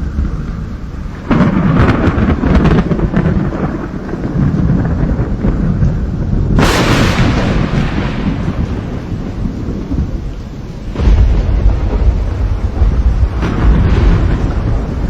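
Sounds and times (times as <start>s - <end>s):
sharp thunder crack: 0.0s - 15.0s
thunder clap rumbling: 0.0s - 15.0s.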